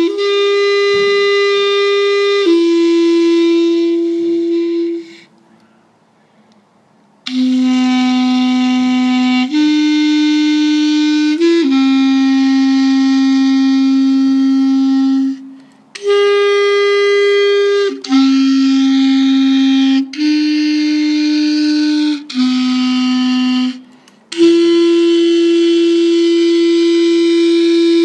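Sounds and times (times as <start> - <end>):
clarinet playing long notes: 0.0 - 5.4, 7.2 - 28.0.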